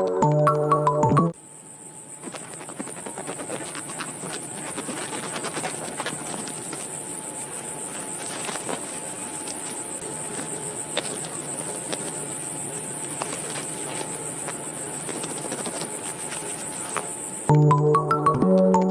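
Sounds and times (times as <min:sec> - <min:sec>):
insects chirring: 0:01.4 - 0:18.8
rustling handling noises: 0:02.2 - 0:17.4.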